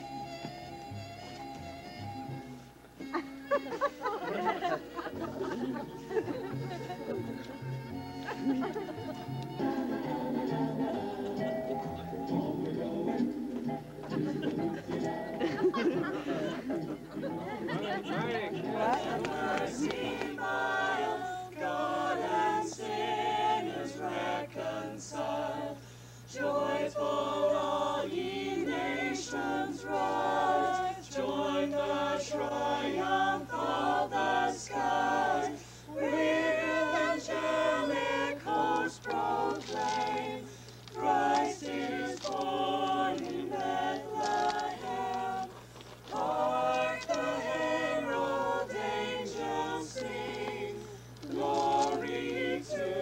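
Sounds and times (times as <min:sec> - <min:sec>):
steady low hum: 0:03.7 - 0:53.0
group of men and women singing: 0:08.4 - 0:53.0.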